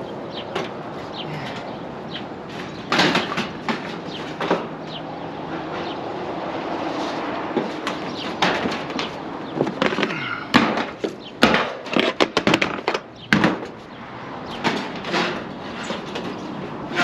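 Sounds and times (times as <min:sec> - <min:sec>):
roofing materials knocking and scraping: 0:00.4 - 0:13.9, 0:14.5 - 0:17.0.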